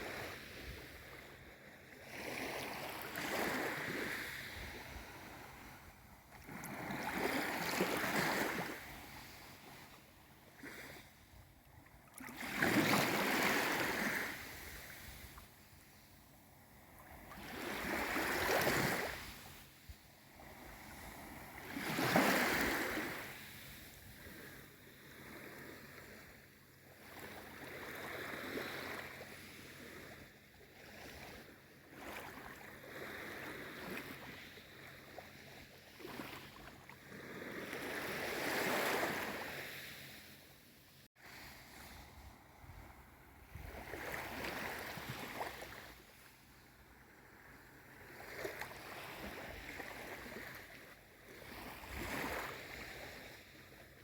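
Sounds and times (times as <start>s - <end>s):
gentle sea waves washing: 0.0s - 54.0s.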